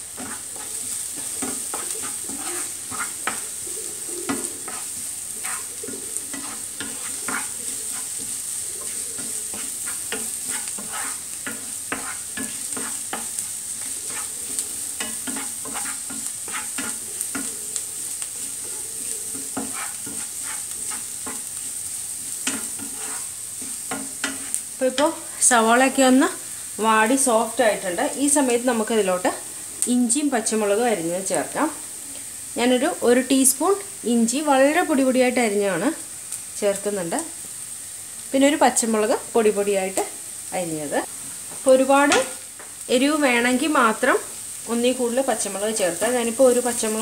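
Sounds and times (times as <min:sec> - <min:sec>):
onions sizzling in oil: 0:00.0 - 0:47.0.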